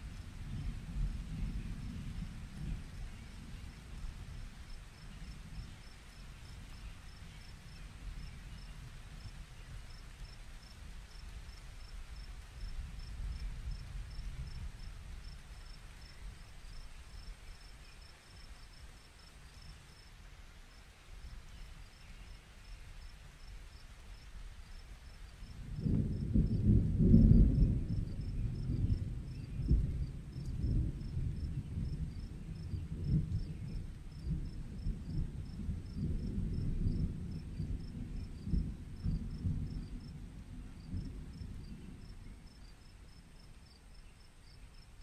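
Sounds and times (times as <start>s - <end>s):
crickets chirping: 3.6s - 20.1s, 20.8s - 40.2s, 40.8s - 45.0s.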